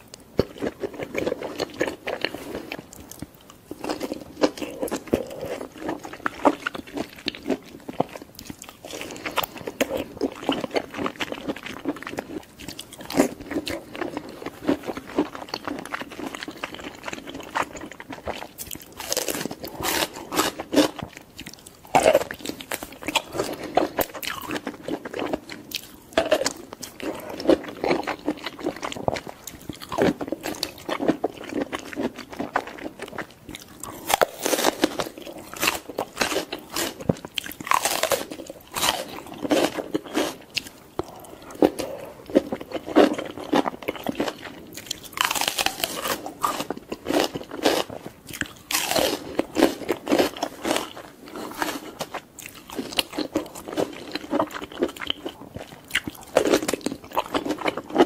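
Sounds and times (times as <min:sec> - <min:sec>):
person chewing with crisp clicks: 0:00.1 - 0:58.0.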